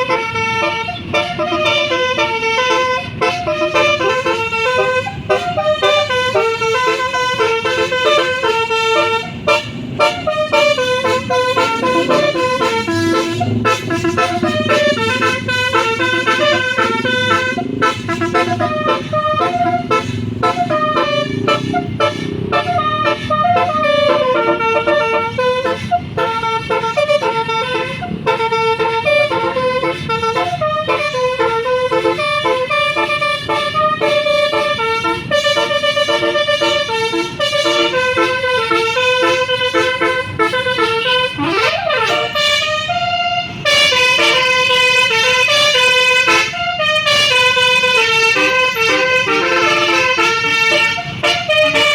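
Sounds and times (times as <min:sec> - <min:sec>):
multi-trumpet air horn playing a tune: 0:00.0 - 0:51.9.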